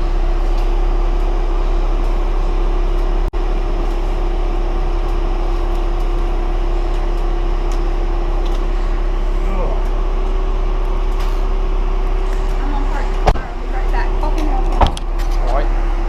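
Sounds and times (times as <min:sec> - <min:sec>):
loud mechanical drone: 0:00.0 - 0:16.0.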